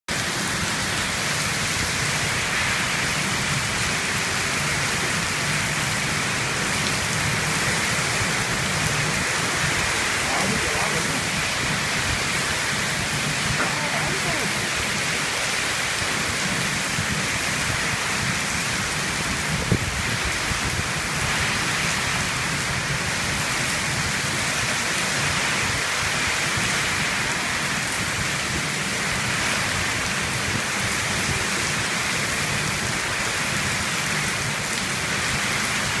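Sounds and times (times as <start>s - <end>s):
heavy rain falling: 0.1s - 36.0s.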